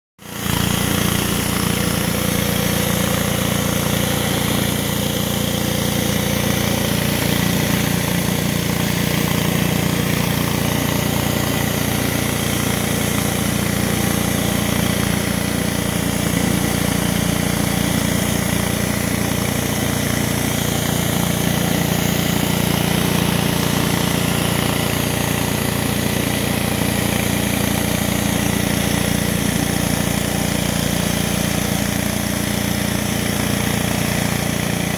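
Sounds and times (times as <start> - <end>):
pressure washer running: 0.2 - 34.9
spray jets hissing on concrete: 0.3 - 34.9.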